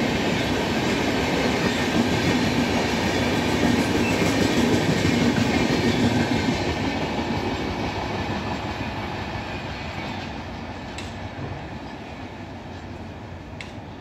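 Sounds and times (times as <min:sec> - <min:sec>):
train wheels rumbling and clattering: 0:00.0 - 0:14.0.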